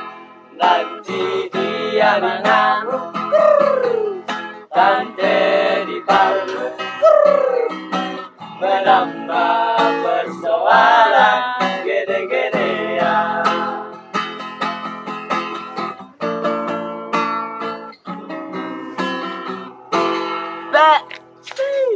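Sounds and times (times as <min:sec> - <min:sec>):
acoustic guitar strumming: 0:00.0 - 0:21.5.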